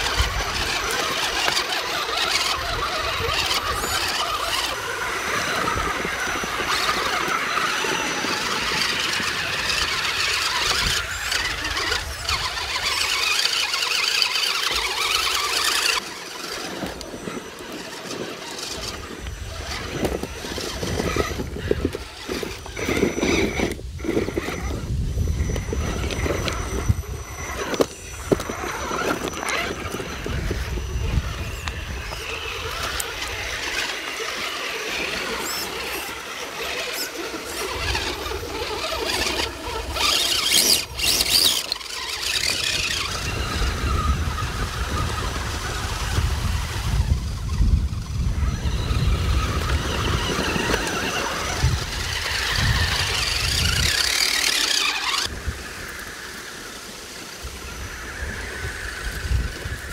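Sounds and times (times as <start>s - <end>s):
toy truck electric motors whining: 0.0s - 59.9s.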